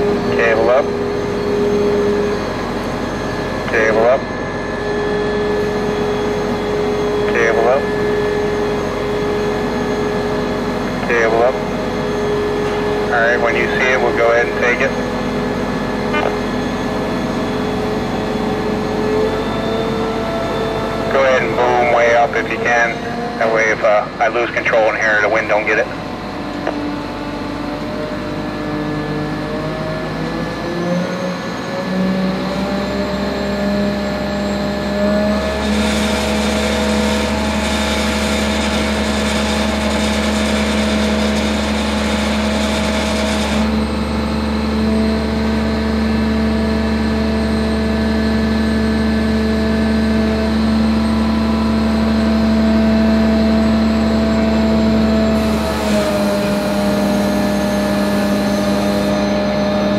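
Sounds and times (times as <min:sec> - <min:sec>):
crane engine revving: 0:00.0 - 0:59.9.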